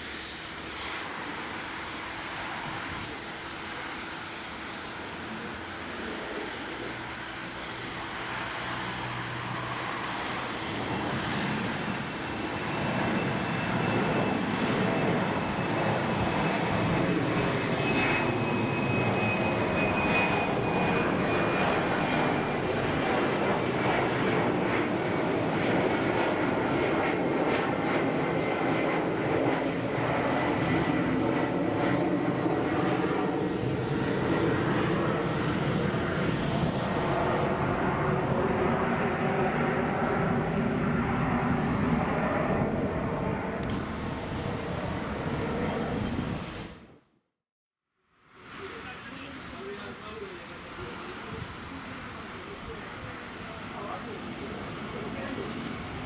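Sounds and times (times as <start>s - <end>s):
jet airliner passing: 0.0s - 47.0s, 48.4s - 56.0s.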